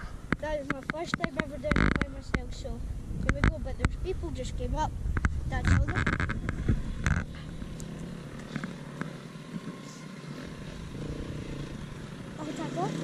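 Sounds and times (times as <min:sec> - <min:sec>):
distant motorbike engine rumble: 0:00.0 - 0:13.0.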